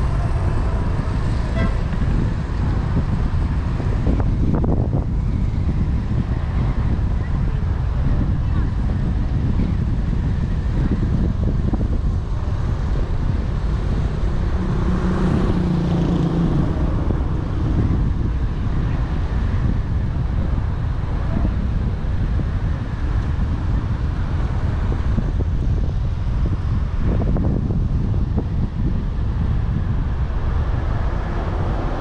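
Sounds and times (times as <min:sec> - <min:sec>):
car and tyres rumbling on road: 0:00.0 - 0:32.0
wind buffeting microphone: 0:00.0 - 0:32.0.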